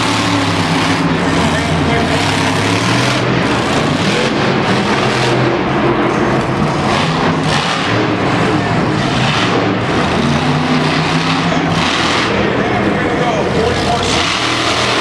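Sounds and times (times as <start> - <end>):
arena noise: 0.0 - 15.0
truck engine revving: 0.0 - 15.0.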